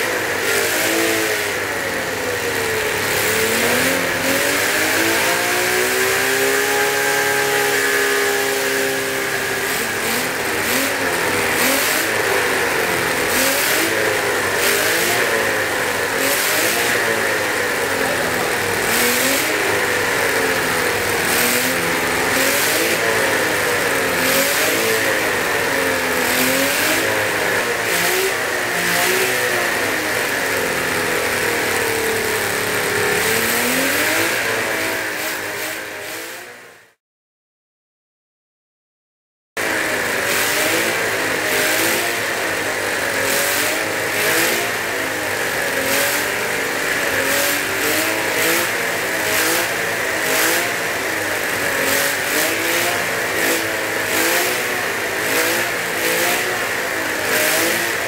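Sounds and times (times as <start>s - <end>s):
model engine revving: 0.0s - 37.0s, 39.6s - 58.0s.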